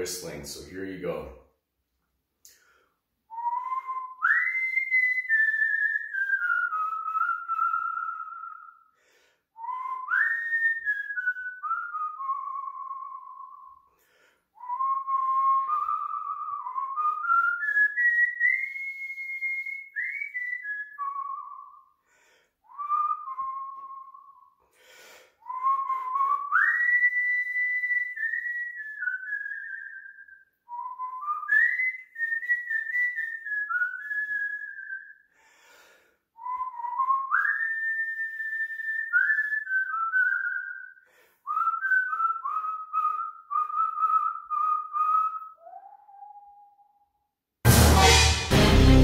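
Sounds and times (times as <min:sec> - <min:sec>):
man whistling a tune: 0:02.5 - 0:22.0, 0:22.6 - 0:49.0.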